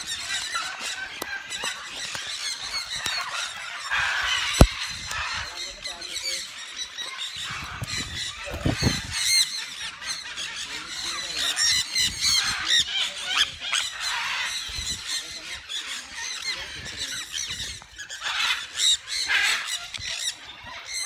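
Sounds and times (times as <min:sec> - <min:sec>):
parrots screeching: 0:00.0 - 0:21.0.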